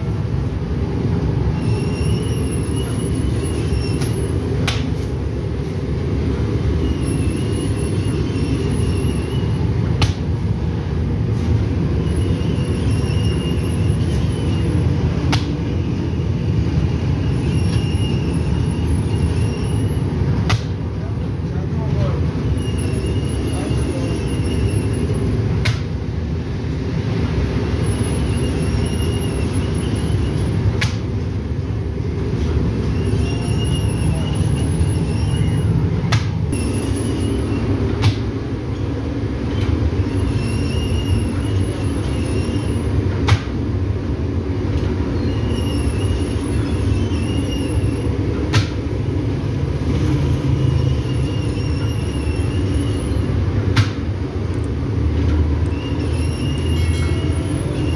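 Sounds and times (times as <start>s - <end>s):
machine squeal: 1.4s - 9.9s, 11.4s - 20.4s, 22.0s - 25.6s, 27.5s - 31.0s, 31.6s - 43.2s, 44.8s - 53.7s, 55.2s - 57.9s.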